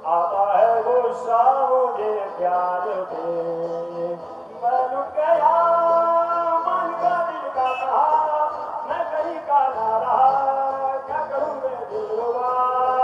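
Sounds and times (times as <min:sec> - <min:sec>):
man singing: 0:00.0 - 0:13.0
music: 0:00.0 - 0:13.0.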